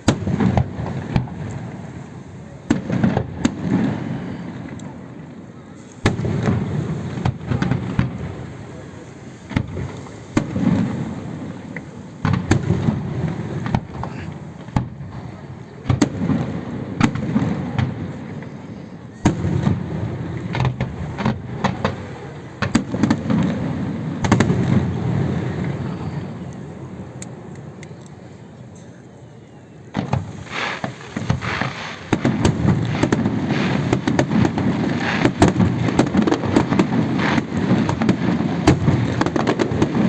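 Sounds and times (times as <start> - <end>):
fireworks bangs and cracks: 0.0 - 27.9, 29.9 - 40.0.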